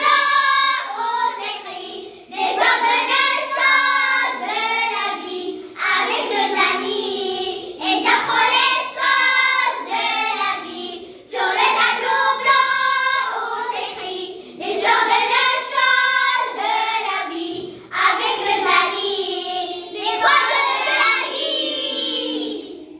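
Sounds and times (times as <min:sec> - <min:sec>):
children singing together: 0:00.0 - 0:22.9.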